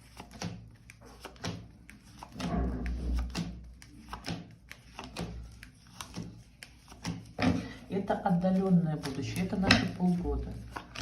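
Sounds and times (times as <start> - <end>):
cards tapping and clicking: 0.0 - 7.8, 8.5 - 11.0.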